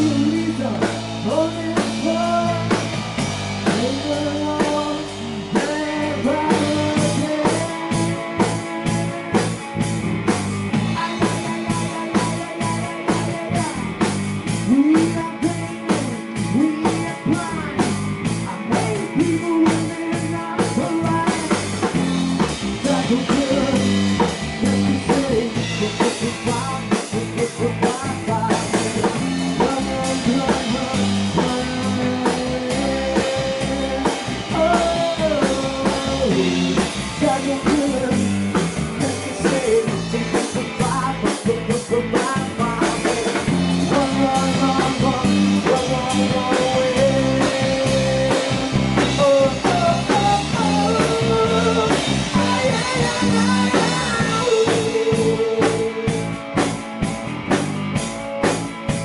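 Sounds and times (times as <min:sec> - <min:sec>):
male singer: 0:00.0 - 0:03.0, 0:03.6 - 0:09.6, 0:10.8 - 0:56.4
drum kit: 0:00.0 - 0:59.0
electric bass: 0:00.0 - 0:59.0
electric guitar: 0:00.0 - 0:59.0.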